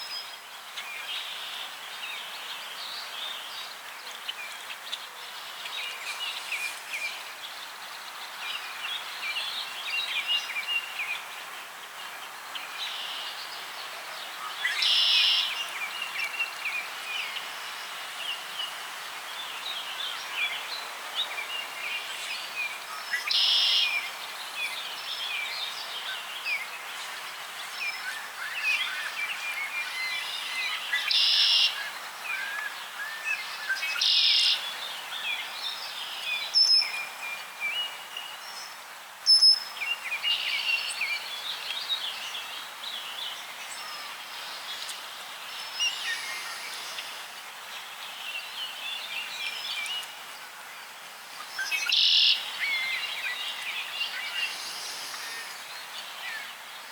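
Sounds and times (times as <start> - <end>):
steady outdoor hiss: 0.0 - 56.9.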